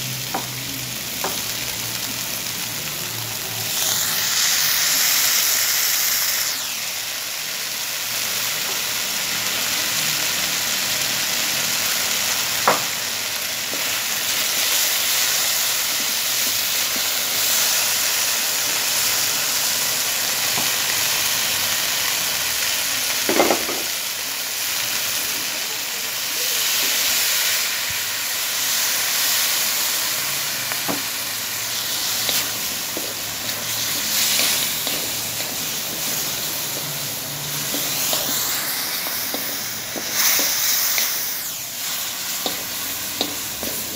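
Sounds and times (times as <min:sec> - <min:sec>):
food sizzling in a wok: 0:00.0 - 0:43.9.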